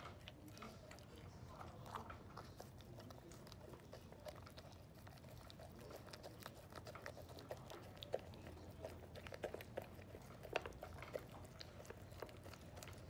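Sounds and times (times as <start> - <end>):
dog chewing and crunching: 0.0 - 13.0.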